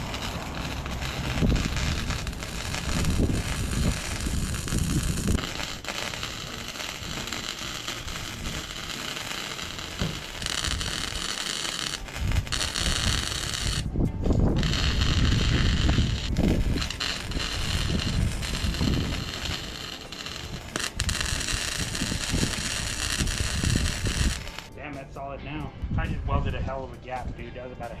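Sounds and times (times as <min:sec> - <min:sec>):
welding arc crackling and hissing: 0:00.0 - 0:24.7.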